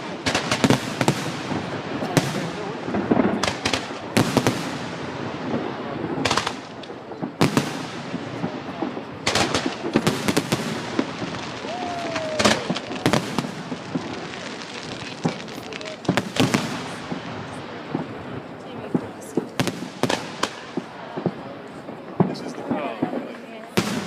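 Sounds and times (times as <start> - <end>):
crowd voices: 0.0 - 24.0
fireworks bangs: 0.0 - 24.0.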